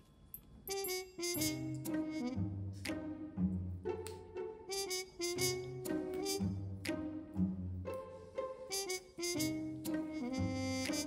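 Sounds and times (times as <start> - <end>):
background music: 0.7 - 11.0.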